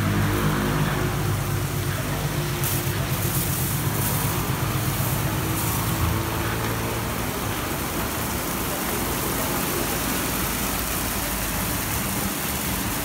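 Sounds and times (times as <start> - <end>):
water spray hissing: 0.0 - 13.0.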